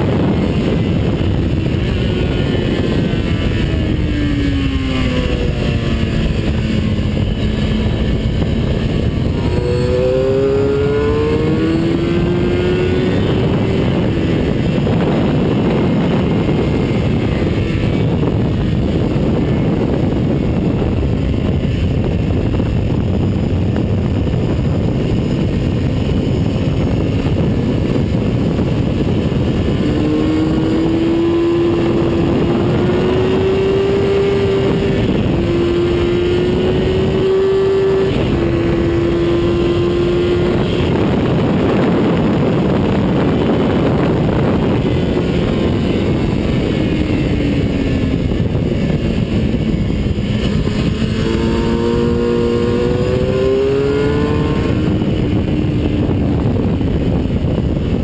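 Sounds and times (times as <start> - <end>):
race car engine revving: 0.0 - 20.6, 28.5 - 56.7
road noise: 0.0 - 58.0
wind noise: 0.0 - 58.0.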